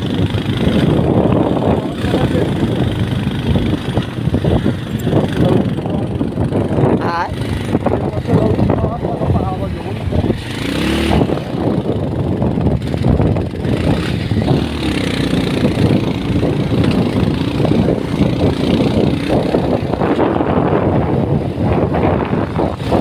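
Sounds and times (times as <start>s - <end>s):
road rumble: 0.0s - 23.0s
vehicle engine running: 0.0s - 23.0s.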